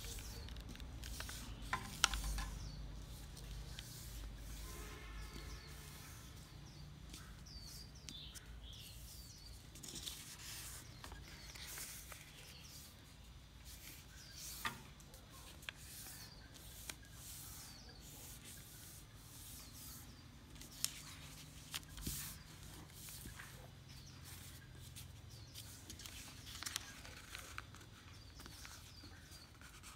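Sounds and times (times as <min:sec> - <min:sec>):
paper crackling: 0:00.0 - 0:13.0, 0:13.6 - 0:29.9
paper rustling while folded: 0:00.0 - 0:29.9.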